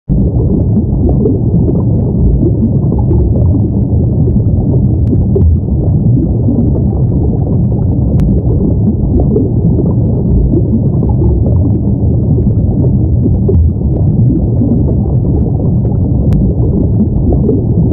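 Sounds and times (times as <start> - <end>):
underwater bubbling rumble: 0.1 - 17.9.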